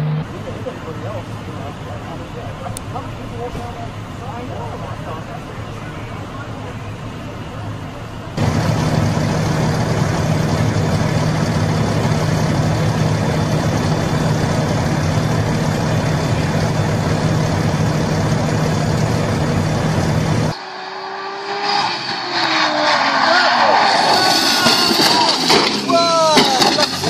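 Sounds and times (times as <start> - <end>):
heavy engine idling: 0.0 - 20.5, 25.8 - 27.0.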